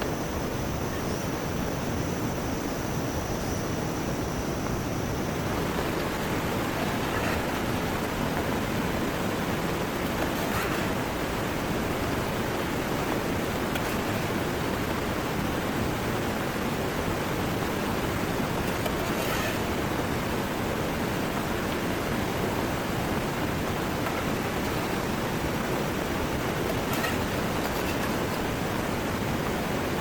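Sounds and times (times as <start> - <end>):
heavy rain pouring: 5.0 - 30.0
swollen river rushing: 5.3 - 30.0.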